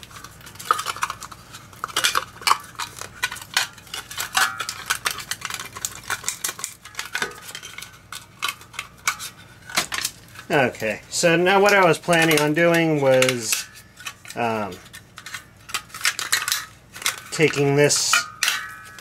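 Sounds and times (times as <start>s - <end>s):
battery pieces clinking on metal tray: 0.7s - 19.0s.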